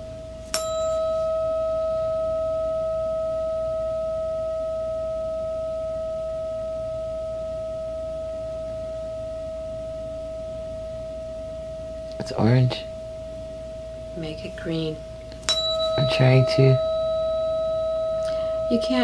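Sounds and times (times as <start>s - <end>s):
struck metal tone ringing: 0.0s - 19.0s.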